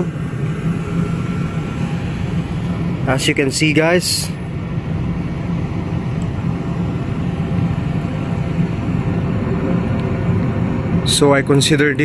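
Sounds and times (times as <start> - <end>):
ship engine humming: 0.0 - 12.0.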